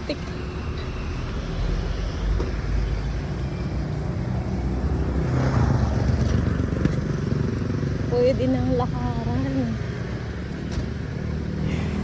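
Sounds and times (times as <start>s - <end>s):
vehicles passing on road: 0.0s - 12.0s.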